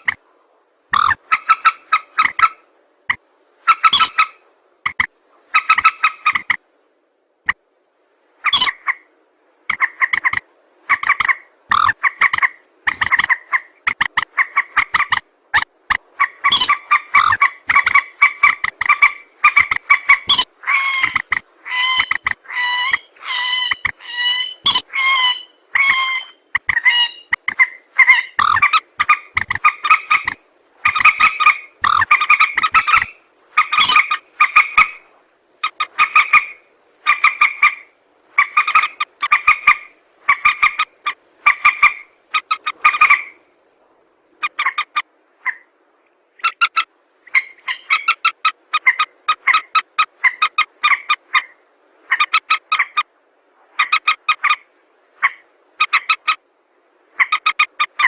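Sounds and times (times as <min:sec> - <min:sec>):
rail bird calling: 0:00.0 - 0:00.2, 0:00.9 - 0:06.6, 0:08.4 - 0:45.7, 0:46.3 - 0:53.1, 0:53.7 - 0:56.4, 0:57.1 - 0:58.0.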